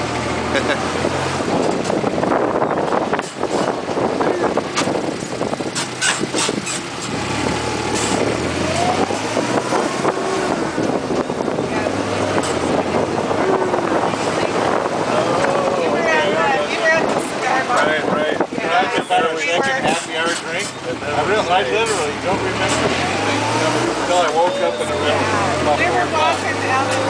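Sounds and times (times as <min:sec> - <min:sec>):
golf cart driving: 0:00.0 - 0:27.0.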